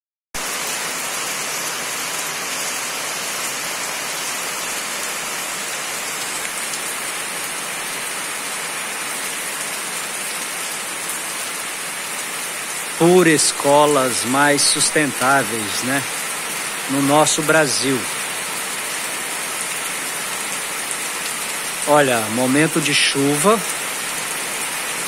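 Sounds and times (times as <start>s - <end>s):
heavy rain on pavement and metal roofs: 0.4s - 25.0s.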